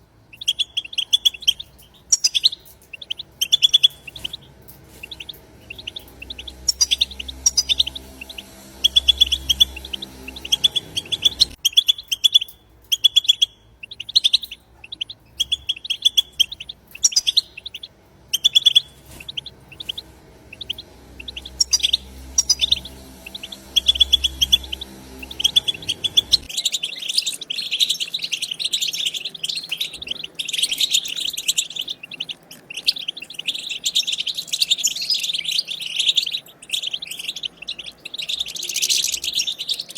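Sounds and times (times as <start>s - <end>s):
goldfinches twittering: 0.0s - 39.9s
low hum: 0.0s - 39.9s.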